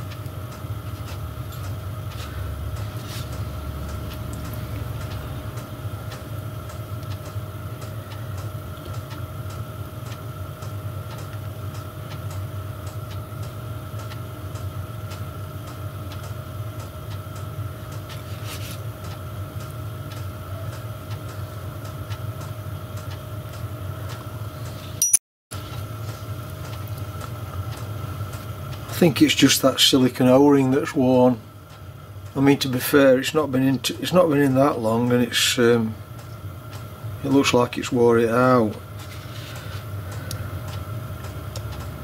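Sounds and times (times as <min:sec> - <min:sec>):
space heater humming: 0:00.0 - 0:42.0.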